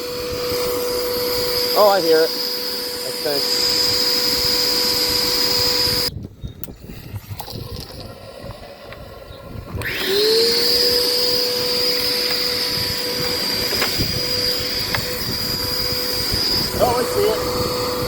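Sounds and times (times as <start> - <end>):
vacuum cleaner motor whine: 0.0 - 6.2, 7.7 - 18.0.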